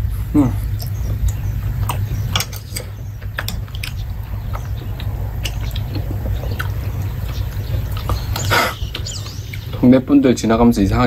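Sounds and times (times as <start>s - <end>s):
steady low rumble: 0.0s - 11.0s
person chewing food: 0.1s - 9.7s.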